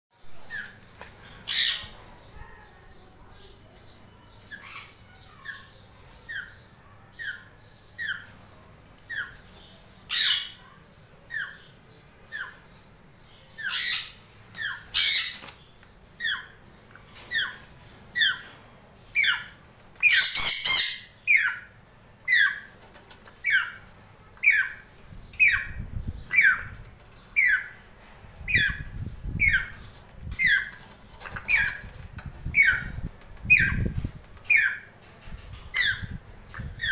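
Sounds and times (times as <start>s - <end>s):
parrot chicks begging calls: 0.4s - 3.4s, 4.2s - 12.8s, 13.4s - 36.9s.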